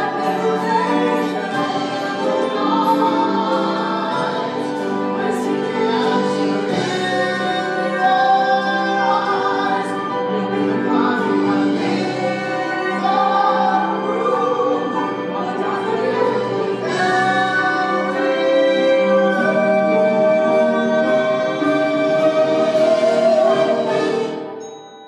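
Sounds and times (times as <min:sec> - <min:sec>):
man and woman singing a duet: 0:00.0 - 0:24.4
orchestra playing: 0:00.0 - 0:24.8.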